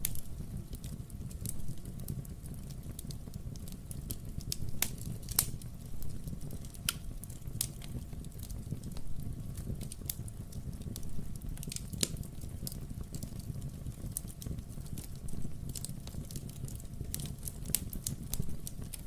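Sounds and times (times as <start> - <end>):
burning logs popping and snapping: 0.0 - 19.0
low rumble of fire: 0.0 - 19.0.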